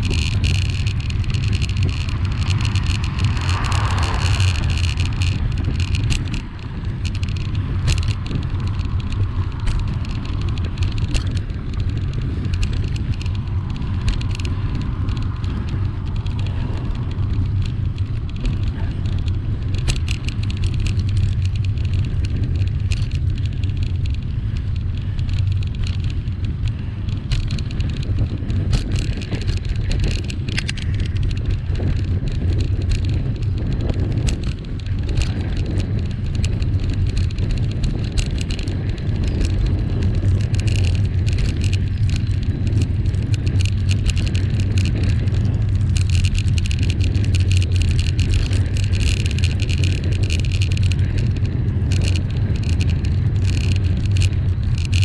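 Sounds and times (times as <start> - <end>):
bicycle tyres on road: 0.0 - 55.0
small clicks and rattles: 0.0 - 55.0
wind on microphone: 0.0 - 55.0.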